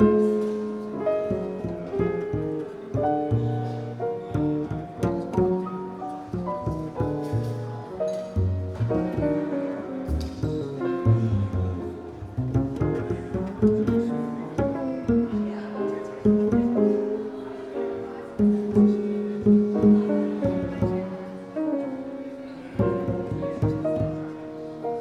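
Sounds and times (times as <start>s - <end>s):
plucked double bass: 0.0s - 17.4s, 18.3s - 21.6s, 22.8s - 25.0s
jazz piano: 0.0s - 25.0s.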